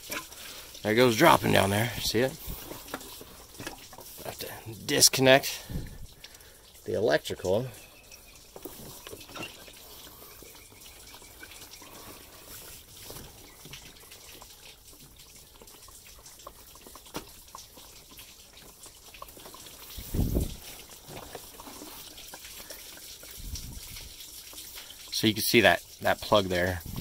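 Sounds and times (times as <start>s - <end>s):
coolant trickling and dripping: 0.0s - 27.0s.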